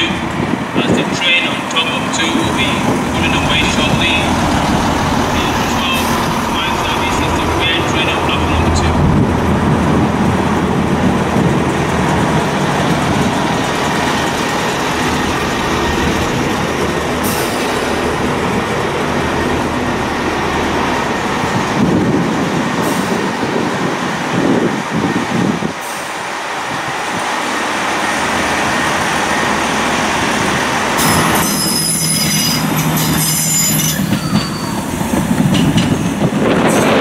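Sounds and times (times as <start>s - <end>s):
diesel train engine rumbling: 0.0s - 37.0s.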